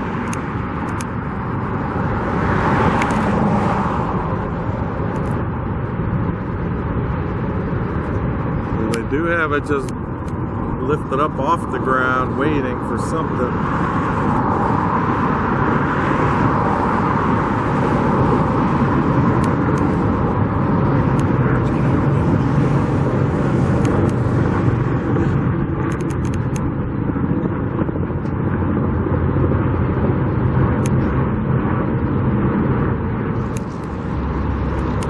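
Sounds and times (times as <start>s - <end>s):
traffic engines rumbling: 0.0s - 35.0s.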